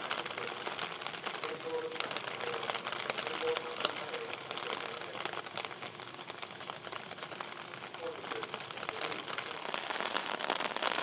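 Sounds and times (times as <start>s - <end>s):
raindrops ticking on wet surfaces: 0.0s - 11.0s
steady rain falling: 0.0s - 11.0s.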